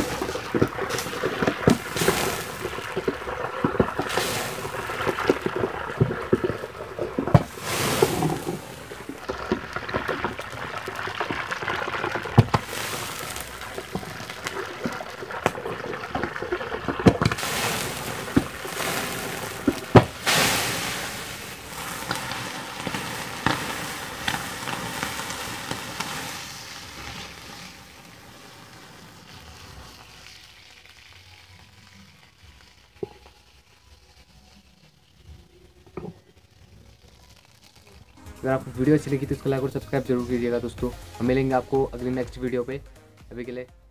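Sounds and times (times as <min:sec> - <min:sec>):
hot oil sizzling and popping: 0:00.0 - 0:43.9.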